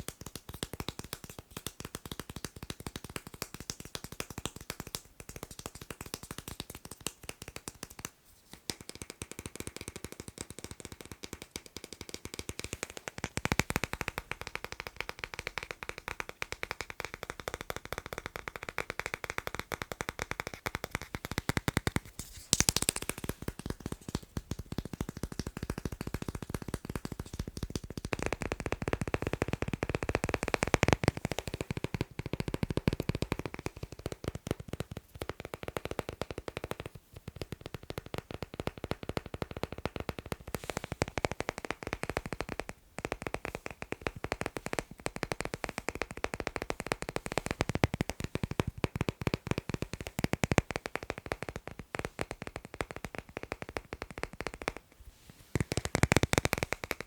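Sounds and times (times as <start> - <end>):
fast tapping on magnets: 0.0 - 57.0.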